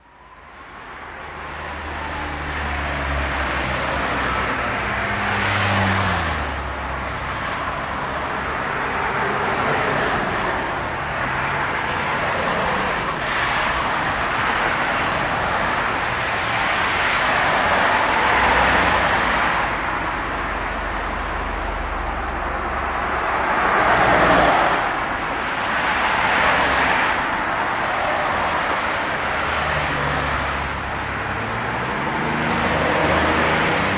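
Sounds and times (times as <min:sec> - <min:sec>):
traffic engines and tyre noise: 0:00.0 - 0:33.9
cars passing by: 0:00.1 - 0:33.9.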